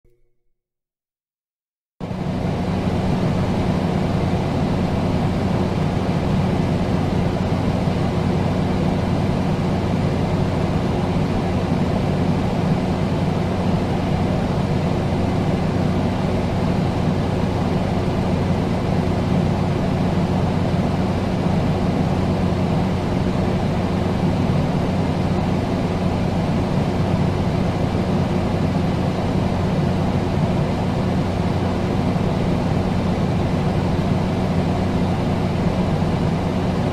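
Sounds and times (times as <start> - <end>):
air conditioner rushing air: 2.0 - 36.9.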